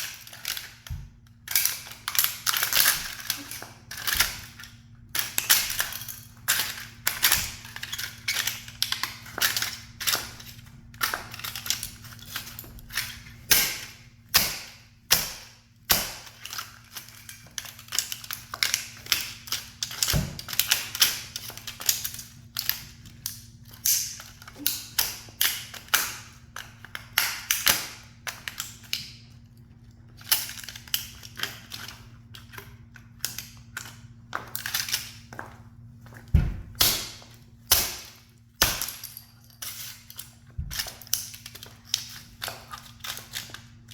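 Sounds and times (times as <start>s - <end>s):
toy car cracking and snapping: 0.0s - 29.2s, 30.2s - 35.2s, 36.8s - 43.9s.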